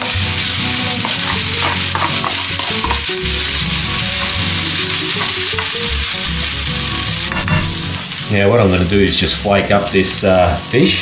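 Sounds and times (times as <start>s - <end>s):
rice sizzling in a frying pan: 0.0s - 11.0s.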